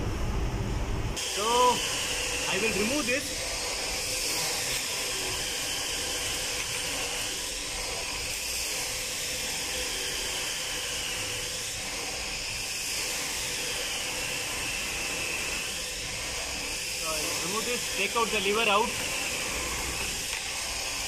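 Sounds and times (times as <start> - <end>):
engine room hiss: 0.0 - 21.0.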